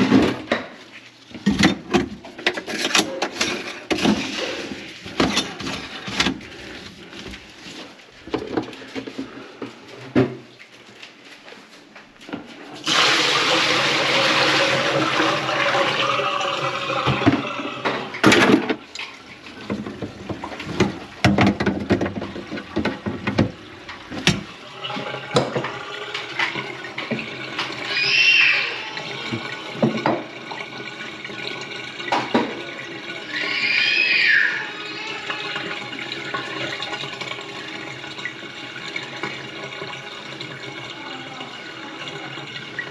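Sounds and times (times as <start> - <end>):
water running into sink: 1.3 - 10.2, 12.8 - 42.9.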